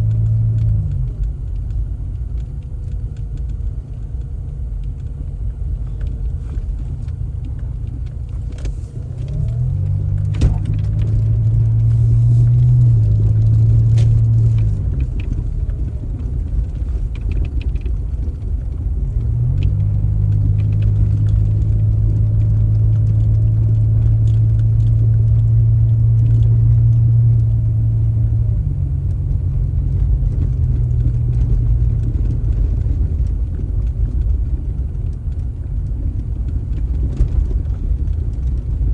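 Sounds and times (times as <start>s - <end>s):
motor vehicle rumble: 0.0s - 38.9s.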